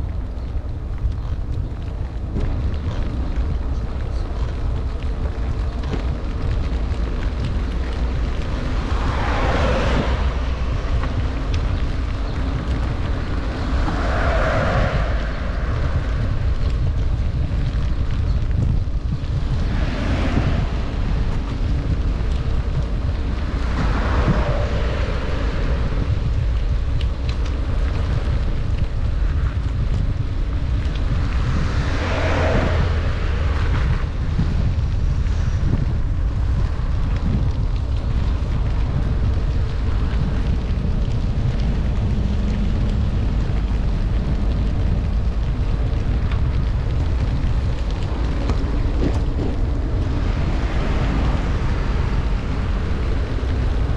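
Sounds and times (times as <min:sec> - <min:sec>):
rain hissing on wet road: 0:00.0 - 0:53.9
wind rumbling on microphone: 0:00.0 - 0:53.9.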